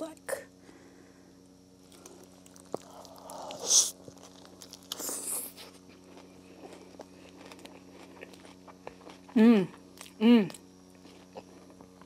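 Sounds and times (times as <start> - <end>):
faint steady hum: 0.0 - 12.0
person chewing food: 1.8 - 12.0.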